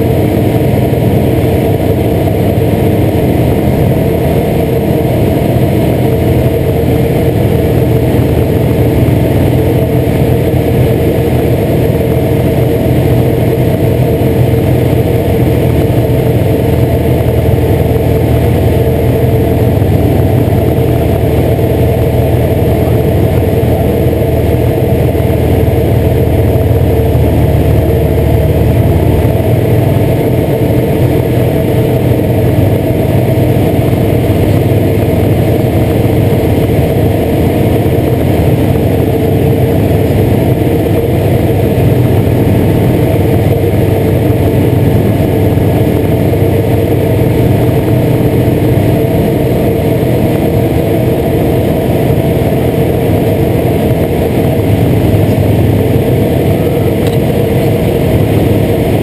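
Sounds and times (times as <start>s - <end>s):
propeller aircraft engine running: 0.0s - 59.0s.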